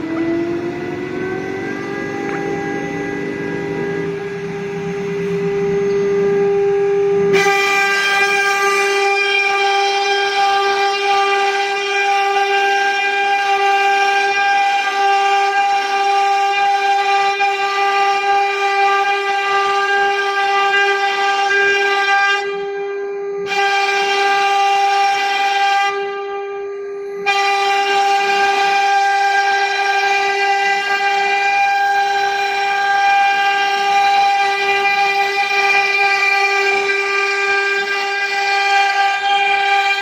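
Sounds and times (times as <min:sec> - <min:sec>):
router spindle high whine: 0:00.0 - 0:40.0.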